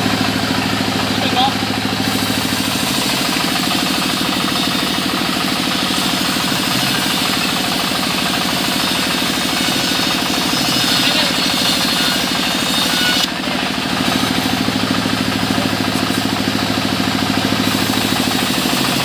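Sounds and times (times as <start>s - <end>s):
circular saw cutting wood: 0.0s - 19.0s.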